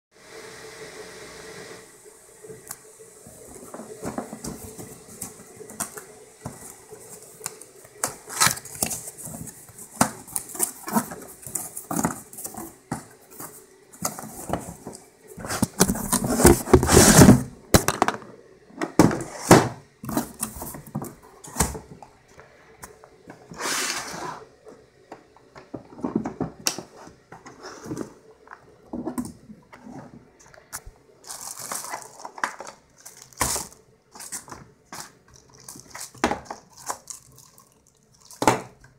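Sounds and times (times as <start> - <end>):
cardboard and plastic rustling: 3.3 - 18.2, 18.8 - 22.0, 25.2 - 38.9.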